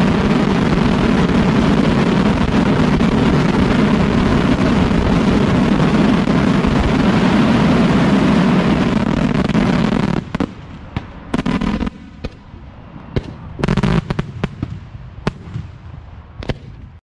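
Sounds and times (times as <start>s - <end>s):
fireworks barrage: 0.0s - 17.0s
fireworks cracks: 0.0s - 17.0s.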